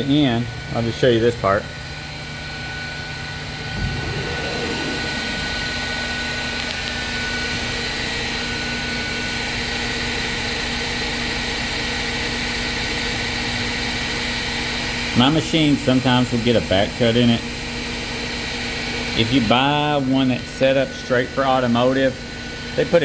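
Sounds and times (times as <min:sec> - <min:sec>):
constant machine whine: 0:00.0 - 0:23.0
milling machine drone: 0:00.0 - 0:23.0.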